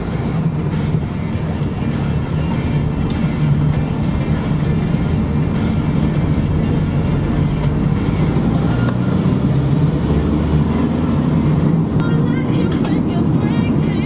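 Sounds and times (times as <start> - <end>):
tyre and road noise: 0.0 - 14.0
van engine drone: 0.0 - 14.0.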